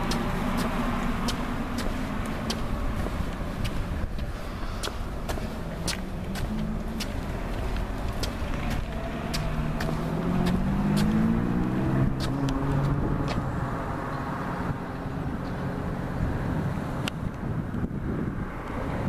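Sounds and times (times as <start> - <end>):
car engine accelerating: 0.0 - 17.1.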